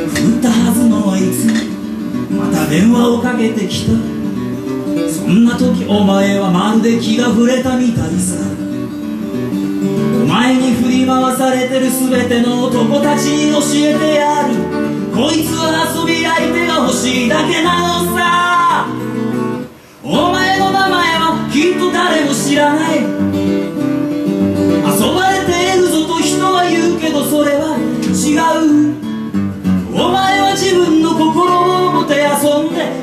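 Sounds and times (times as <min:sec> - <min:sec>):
man singing: 0:00.0 - 0:09.1, 0:09.8 - 0:33.0
acoustic guitar: 0:00.0 - 0:33.0.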